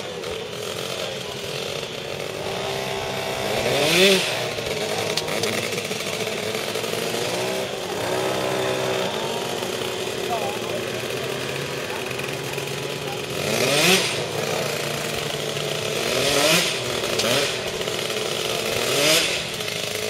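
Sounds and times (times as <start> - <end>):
moped engine buzzing and revving: 0.0 - 20.0.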